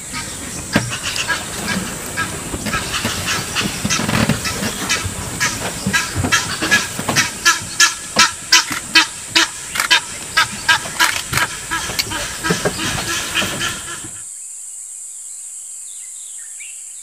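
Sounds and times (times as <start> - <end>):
goose honking: 0.0 - 14.2.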